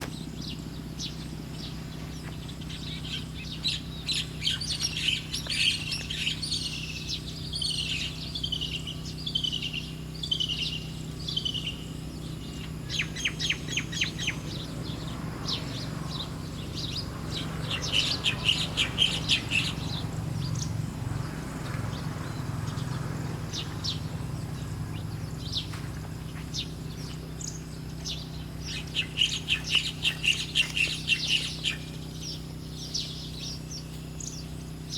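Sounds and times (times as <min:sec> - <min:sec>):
small birds chirping: 0:00.0 - 0:34.9
steady low hum: 0:00.0 - 0:34.9.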